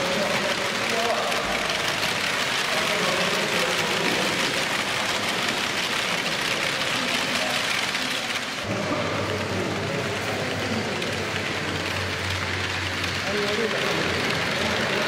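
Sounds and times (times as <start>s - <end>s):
model train wheels on track: 0.0s - 15.0s.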